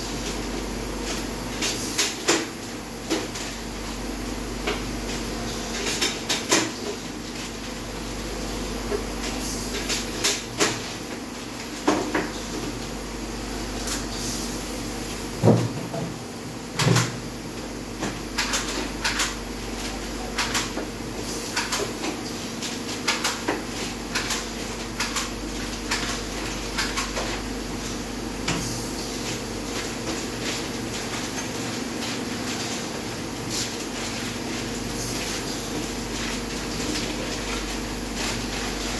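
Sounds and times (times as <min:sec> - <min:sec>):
steam sterilizer hum: 0:00.0 - 0:38.9.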